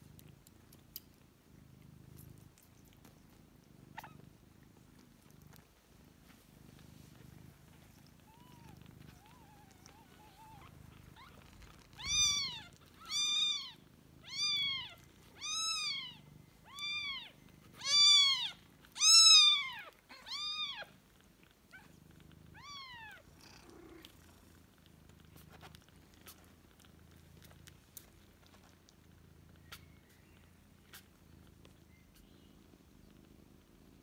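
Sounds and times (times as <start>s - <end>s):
low purr: 0.0s - 20.0s, 20.6s - 34.0s.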